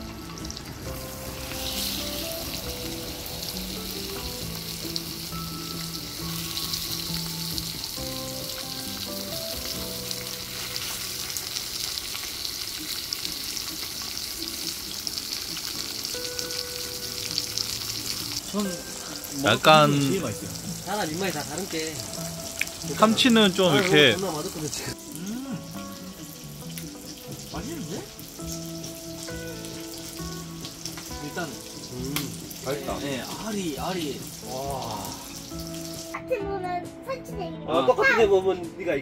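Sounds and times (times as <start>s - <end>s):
fish sizzling on a griddle: 0.0s - 36.4s.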